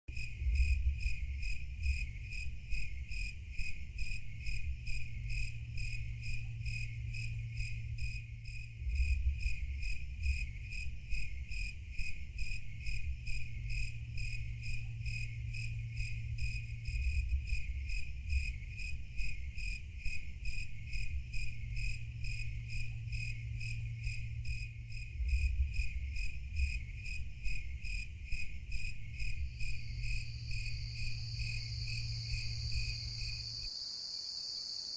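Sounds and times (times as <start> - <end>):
cricket chirping: 0.1 - 34.9
low background rumble: 0.2 - 33.7.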